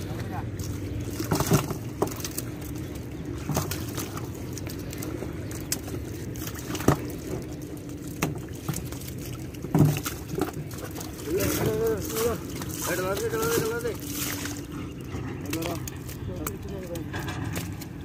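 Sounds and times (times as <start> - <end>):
bare feet treading in mud: 0.0 - 18.0
steady low drone: 0.0 - 18.0
fish flopping in mud: 0.5 - 18.0.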